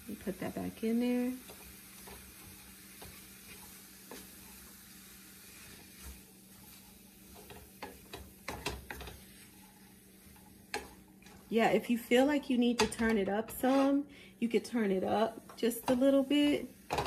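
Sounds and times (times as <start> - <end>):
food sizzling in a skillet: 0.0 - 17.0
wooden spoon scraping a pan: 1.0 - 11.7, 12.5 - 14.1, 14.7 - 17.0.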